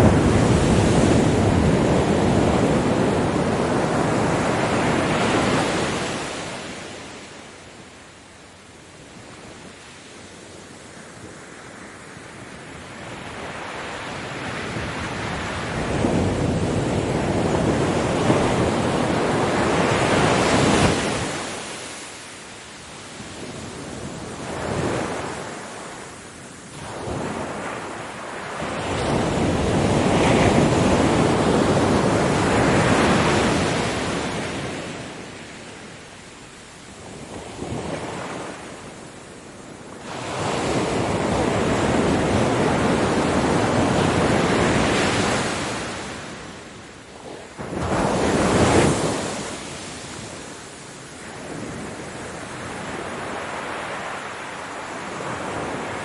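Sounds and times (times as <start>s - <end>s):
ocean waves breaking: 0.0s - 7.3s, 13.1s - 36.0s, 36.6s - 56.0s.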